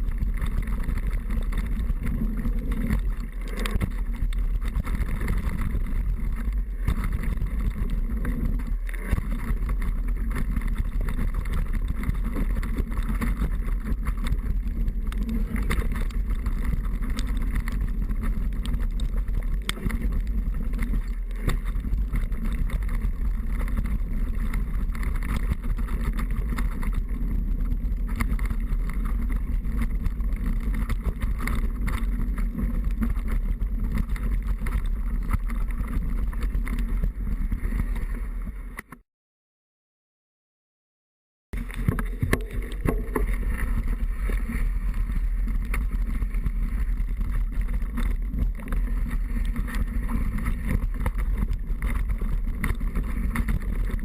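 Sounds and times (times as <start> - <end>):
bike knocks and rattles: 0.0 - 39.0, 41.6 - 54.0
wind and ground rumble: 0.0 - 39.0, 41.5 - 54.0.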